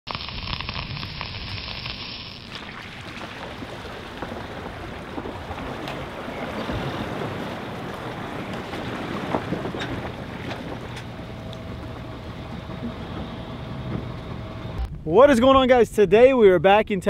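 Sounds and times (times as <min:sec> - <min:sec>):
water splashing around trailer wheels: 0:00.1 - 0:14.8.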